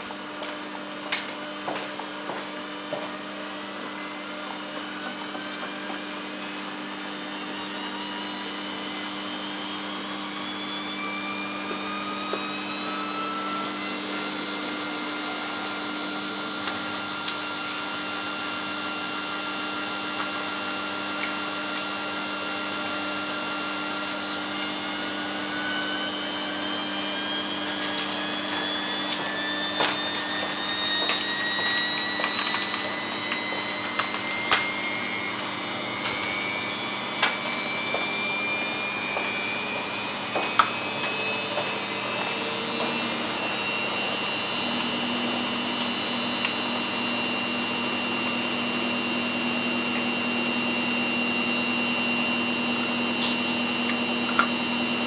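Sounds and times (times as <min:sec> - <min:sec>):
steady hum: 0:00.0 - 0:55.0
washing machine spin whine: 0:00.0 - 0:55.0.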